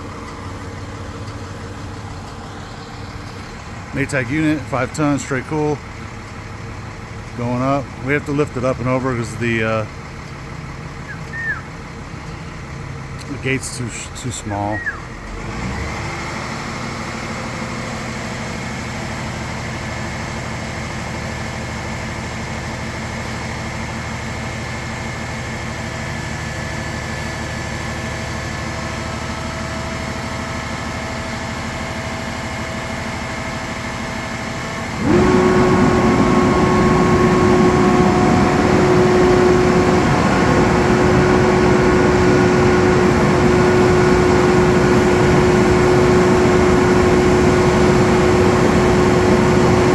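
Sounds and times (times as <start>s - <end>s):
crane whine: 0.0s - 49.9s
truck engine running: 0.0s - 49.9s.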